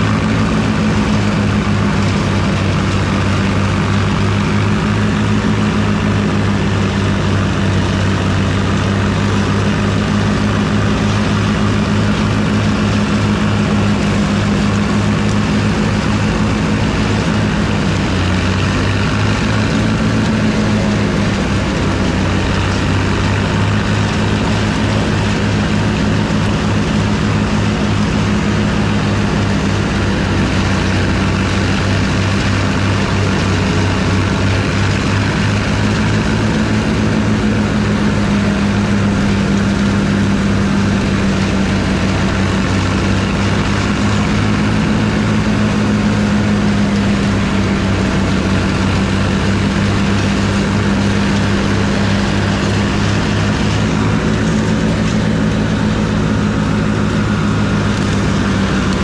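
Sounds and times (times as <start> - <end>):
forage chopper cutting and blowing: 0.0 - 59.0
tractor engine running under load: 0.0 - 59.0.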